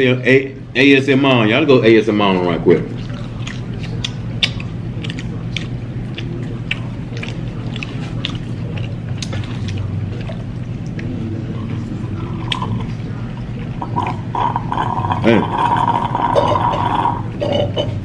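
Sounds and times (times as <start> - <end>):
steady low hum: 0.0 - 18.0
people chewing crunchy fries: 2.8 - 17.4.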